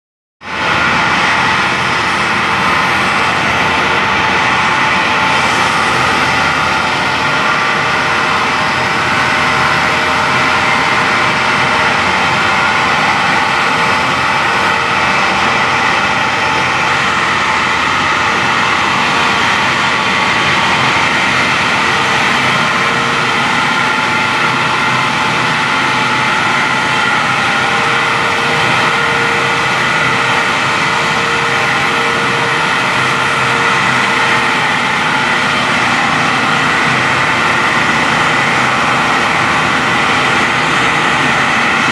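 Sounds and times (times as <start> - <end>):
machinery drone: 0.4 - 41.9.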